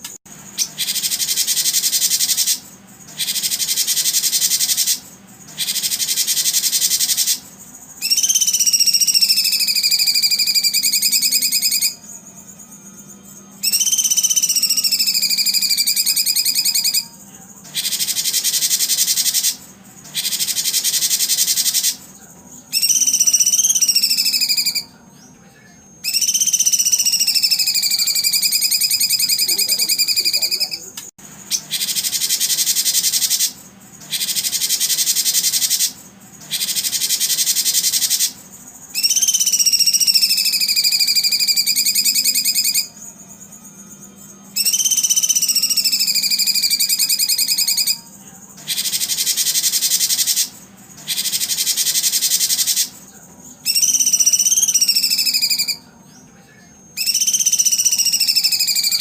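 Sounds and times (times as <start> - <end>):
songbird whistles and buzzy trills: 0.0 - 59.0.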